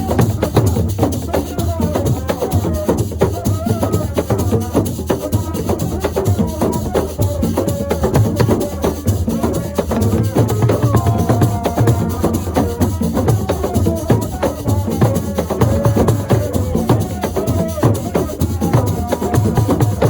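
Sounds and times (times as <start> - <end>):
hand percussion: 0.0 - 20.0
people singing: 0.0 - 20.0
shaken rhythm instruments: 0.0 - 20.0.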